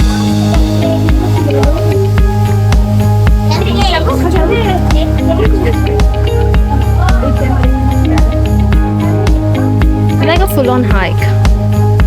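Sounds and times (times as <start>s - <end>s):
electronic music with bass: 0.0s - 12.0s.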